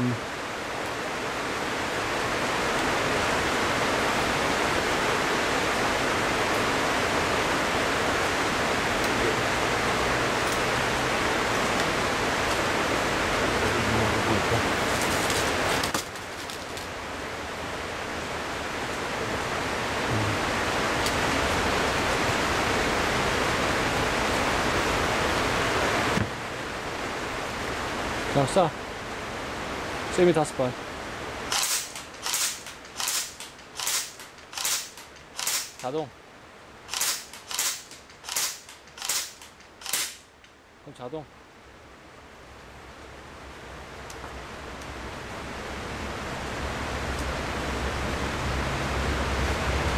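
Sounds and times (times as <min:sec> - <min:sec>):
steady rushing hiss: 0:00.0 - 0:41.2.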